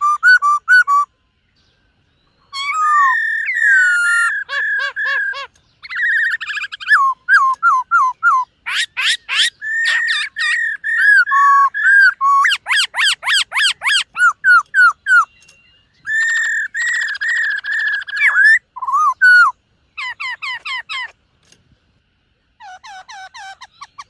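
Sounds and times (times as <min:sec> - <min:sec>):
bird whistling song: 0:00.0 - 0:21.2, 0:22.6 - 0:24.0.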